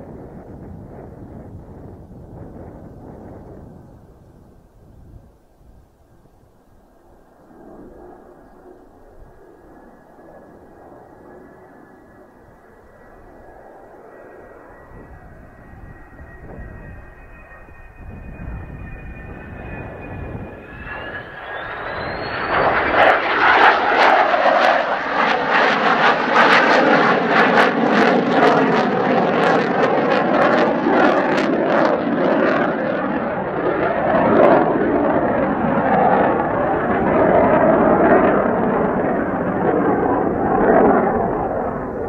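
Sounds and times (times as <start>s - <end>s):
jet engine whine: 0.0s - 42.0s
jet roar passing: 6.8s - 42.0s.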